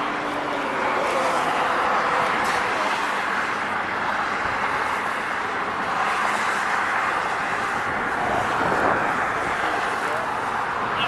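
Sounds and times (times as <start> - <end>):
road traffic passing at speed: 0.0 - 11.0.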